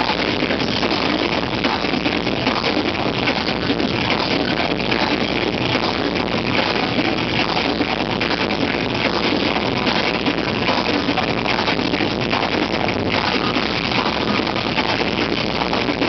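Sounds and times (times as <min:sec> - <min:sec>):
heavy metal band playing live: 0:00.0 - 0:16.0.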